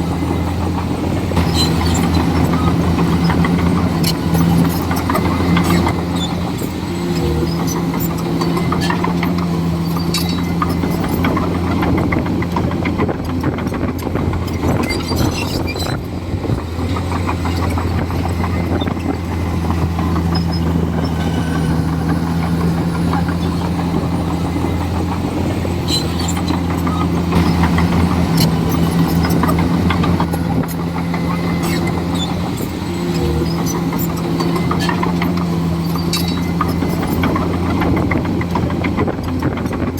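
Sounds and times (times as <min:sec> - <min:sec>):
bulldozer diesel engine: 0:00.0 - 0:39.9
clanks and knocks: 0:07.4 - 0:39.9.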